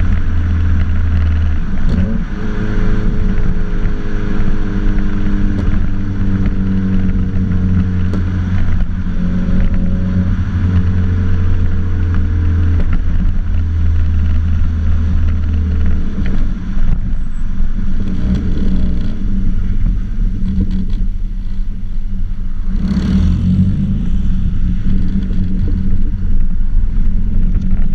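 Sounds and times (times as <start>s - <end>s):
car exhaust drone: 0.0s - 27.9s.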